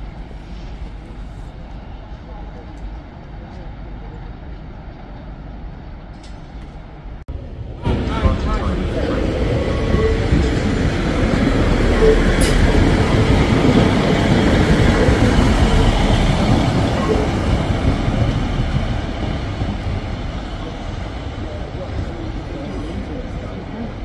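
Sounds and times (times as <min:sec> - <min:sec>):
train running: 0:00.0 - 0:24.0.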